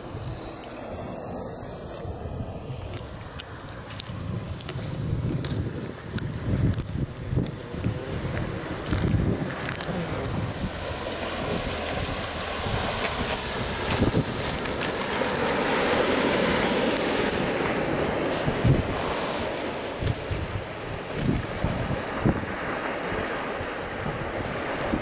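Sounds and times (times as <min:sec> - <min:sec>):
surf washing onto pebble beach: 0:00.0 - 0:25.0
wind buffeting microphone: 0:00.0 - 0:25.0.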